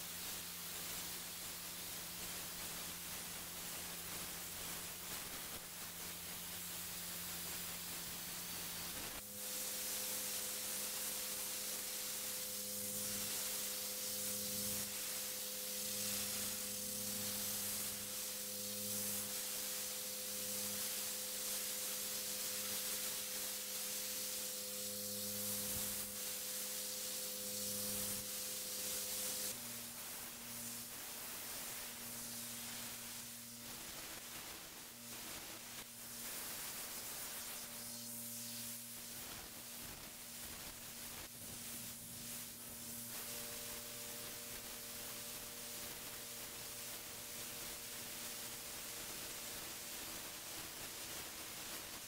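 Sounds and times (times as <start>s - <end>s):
high-pressure water spray hiss: 0.0s - 52.0s.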